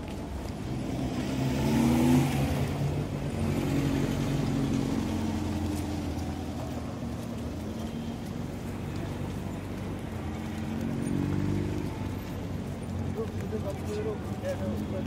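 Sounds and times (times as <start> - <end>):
car driving past: 0.5 - 15.0.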